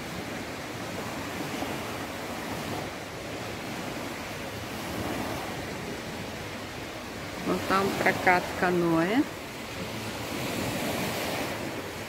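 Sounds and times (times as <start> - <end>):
waves washing against shore: 0.0 - 12.0.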